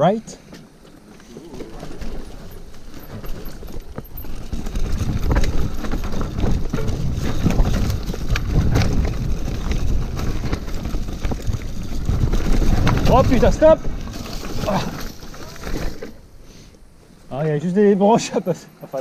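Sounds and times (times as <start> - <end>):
tyres rumbling on rough trail: 0.0 - 19.0
wind: 0.0 - 19.0
bike knocks and rattles: 0.6 - 16.2.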